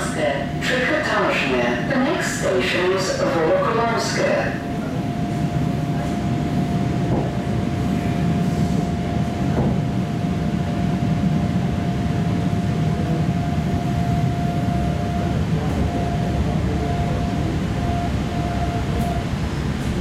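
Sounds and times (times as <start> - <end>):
electric train rumble and whine: 0.0 - 20.0.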